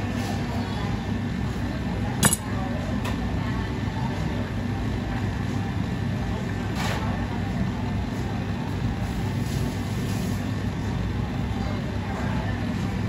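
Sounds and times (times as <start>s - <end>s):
low kitchen rumble: 0.0s - 13.0s.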